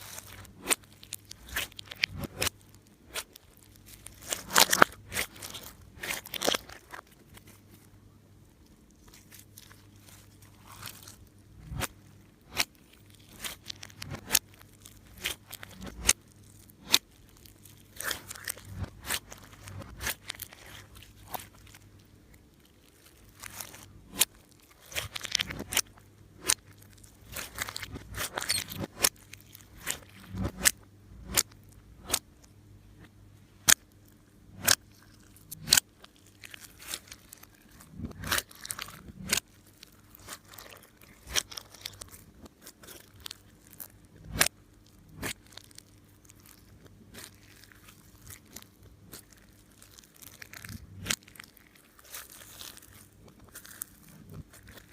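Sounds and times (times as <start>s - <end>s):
slime popping and crackling: 0.0s - 7.7s, 8.6s - 32.5s, 33.6s - 54.9s.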